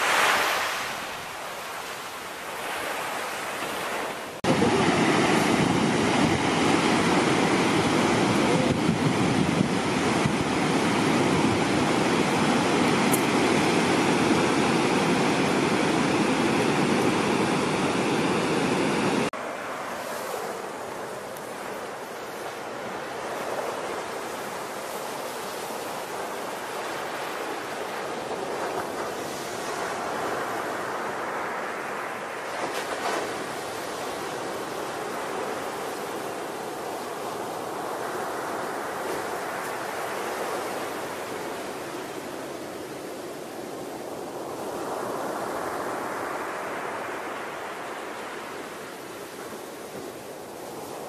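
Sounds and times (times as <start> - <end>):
surf breaking on beach: 0.0 - 51.0.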